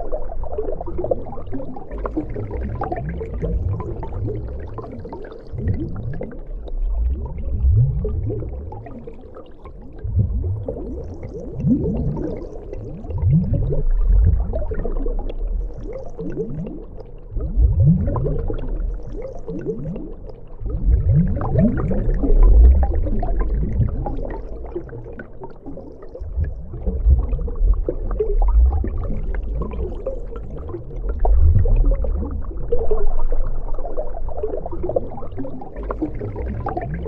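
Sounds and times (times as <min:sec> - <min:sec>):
deep underwater water flow rumble: 0:00.0 - 0:37.0
water bubbling and gurgling: 0:00.0 - 0:37.0.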